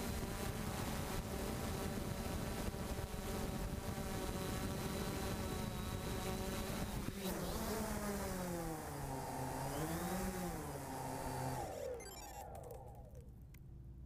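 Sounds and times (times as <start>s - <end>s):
drone propellers buzzing: 0.0s - 13.3s.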